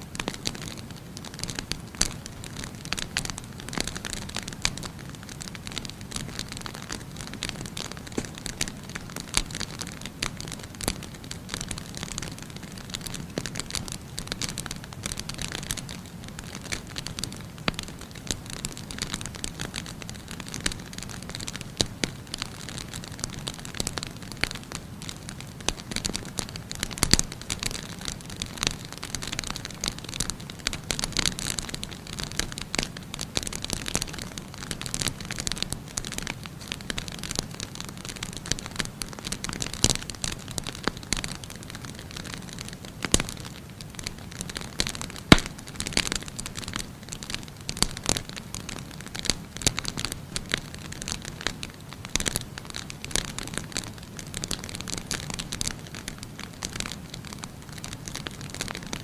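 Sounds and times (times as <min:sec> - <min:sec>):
low background noise: 0:00.0 - 0:59.0
firewood crackling and popping: 0:00.1 - 0:59.0.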